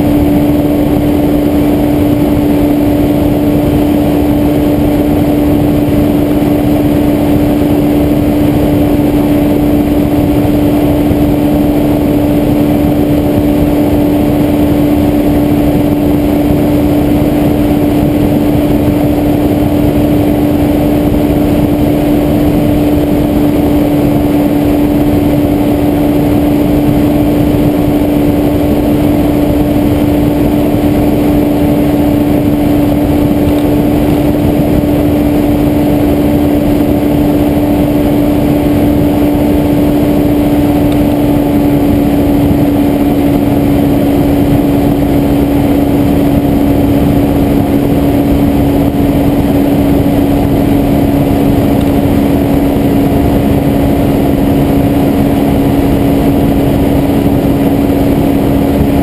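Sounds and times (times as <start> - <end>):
aircraft engine and propeller: 0.0 - 59.0
wind on microphone: 0.0 - 59.0.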